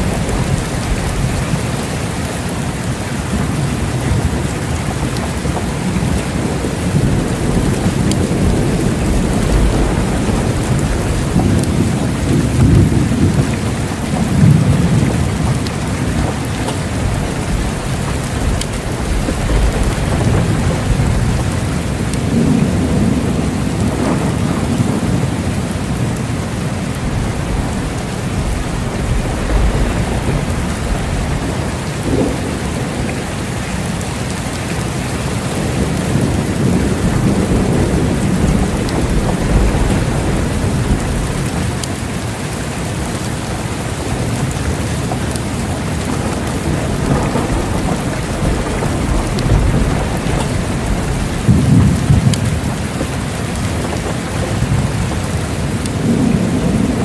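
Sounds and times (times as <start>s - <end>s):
low rolling thunder: 0.0s - 57.0s
steady rain falling: 0.0s - 57.0s.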